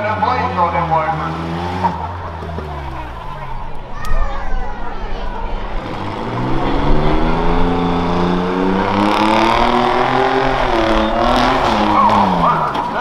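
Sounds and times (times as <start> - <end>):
truck engine revving and accelerating: 0.0 - 13.0.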